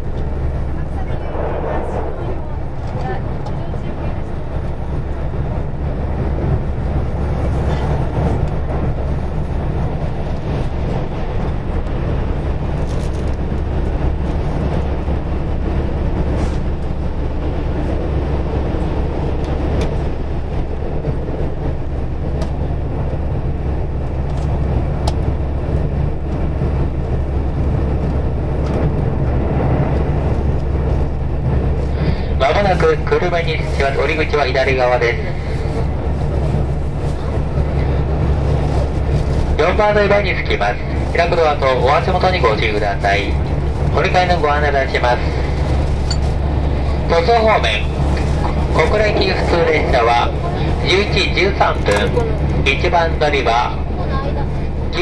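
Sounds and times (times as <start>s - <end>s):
diesel railcar rumble: 0.0s - 55.0s.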